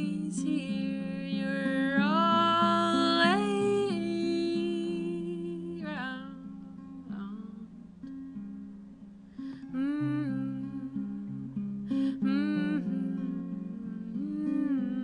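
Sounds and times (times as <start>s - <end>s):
woman singing: 0.0s - 7.8s, 9.5s - 15.0s
acoustic guitar plucking: 0.0s - 15.0s.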